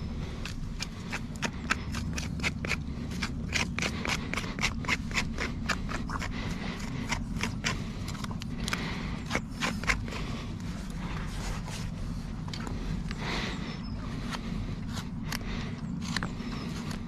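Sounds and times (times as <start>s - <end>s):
hand tool scraping hoof: 0.0s - 17.0s
steady low hum: 0.0s - 17.0s.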